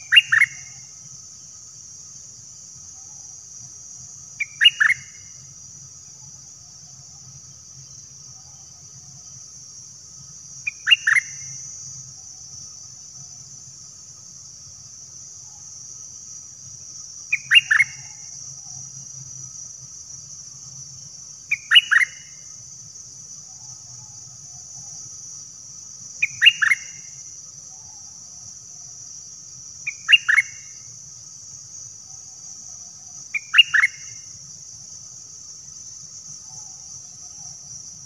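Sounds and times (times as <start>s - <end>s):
high hiss of insects: 0.0s - 38.0s.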